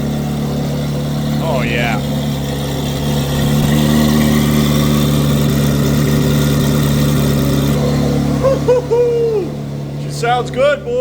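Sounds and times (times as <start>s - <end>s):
car engine idling loud: 0.0s - 11.0s.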